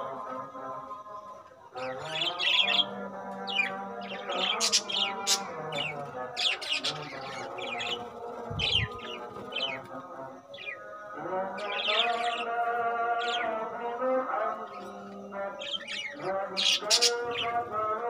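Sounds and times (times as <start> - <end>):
budgerigars chirping: 1.8 - 9.9, 10.5 - 18.0.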